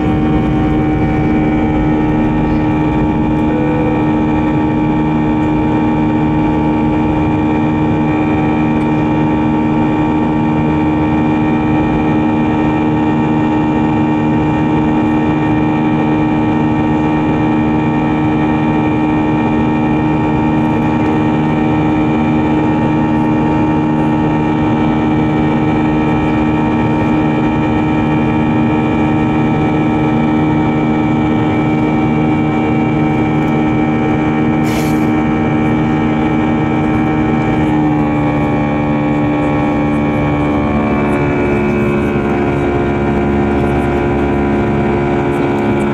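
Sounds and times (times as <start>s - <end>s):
constant engine whining tones: 0.0s - 45.9s
jet engines roaring in cabin: 0.0s - 45.9s.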